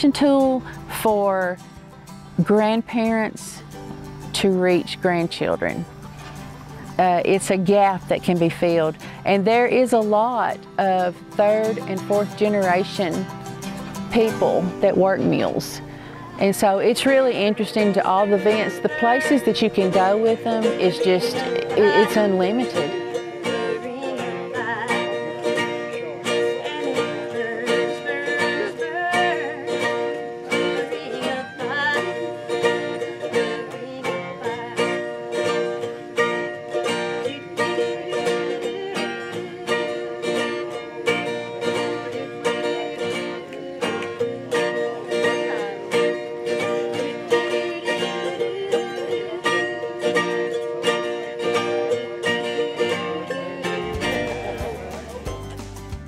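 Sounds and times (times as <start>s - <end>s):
acoustic guitar strumming: 0.0s - 56.0s
mandolin: 0.0s - 56.0s.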